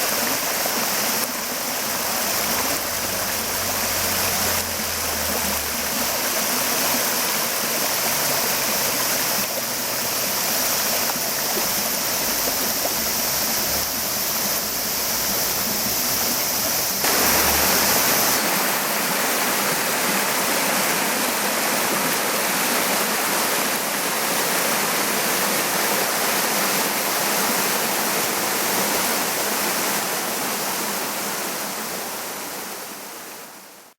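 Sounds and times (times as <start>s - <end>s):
water flowing over rock: 0.0s - 33.1s.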